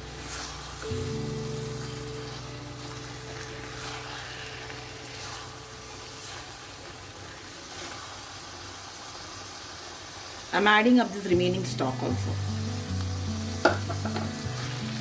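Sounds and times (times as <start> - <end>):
spatula scraping wok: 0.0 - 9.4, 11.1 - 15.0
frying hiss: 0.0 - 15.0.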